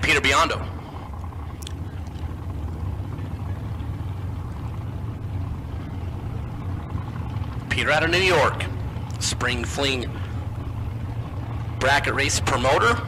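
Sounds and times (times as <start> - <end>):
dragster engines idling: 0.0 - 13.0.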